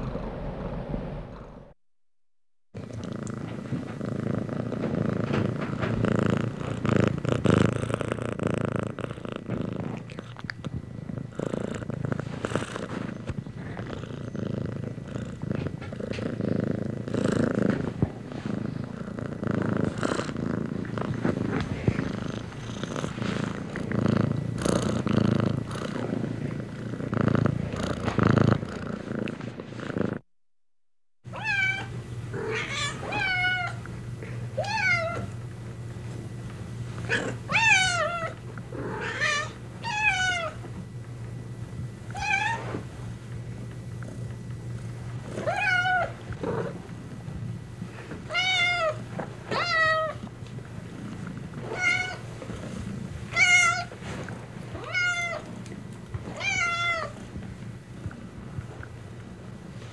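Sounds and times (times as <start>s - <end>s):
cat purring: 0.0s - 1.8s, 2.8s - 30.2s, 32.2s - 59.9s.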